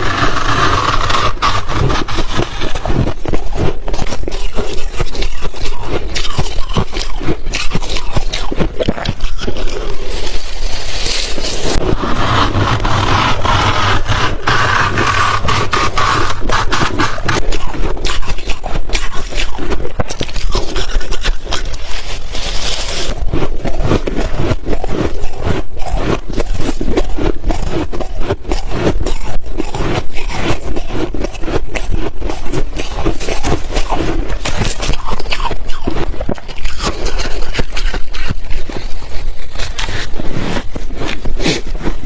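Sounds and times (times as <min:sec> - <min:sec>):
chewing crunchy ice: 0:00.0 - 0:42.0.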